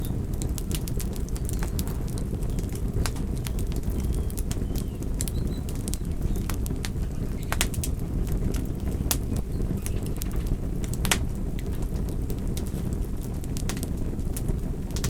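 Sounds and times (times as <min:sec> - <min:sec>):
fire crackling and popping: 0:00.0 - 0:15.0
steady low rumble: 0:00.0 - 0:15.0.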